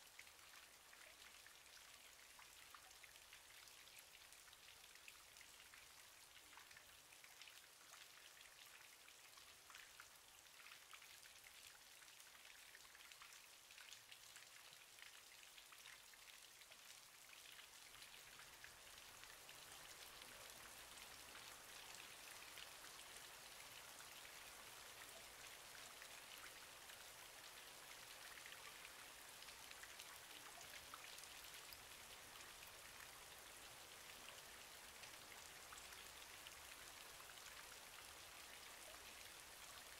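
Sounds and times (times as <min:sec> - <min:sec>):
rain-like patter and hiss: 0:00.0 - 0:39.9.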